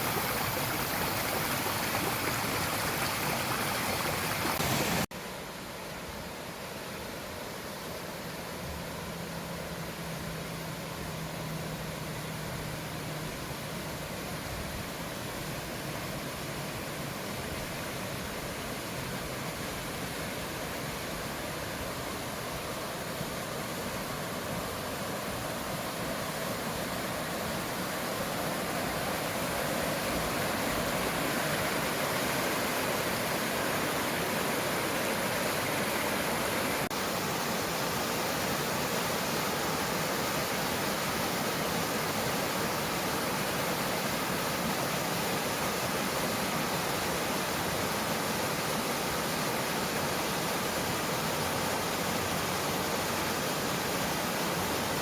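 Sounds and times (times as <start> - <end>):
stream water rushing over rocks: 0.0 - 55.0.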